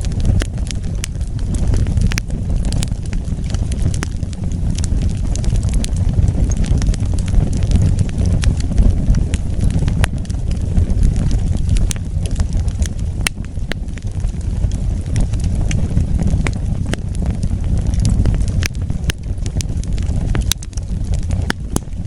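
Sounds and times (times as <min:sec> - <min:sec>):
burning wood crackling: 0:00.0 - 0:22.0
low rumble of flames: 0:00.0 - 0:22.0.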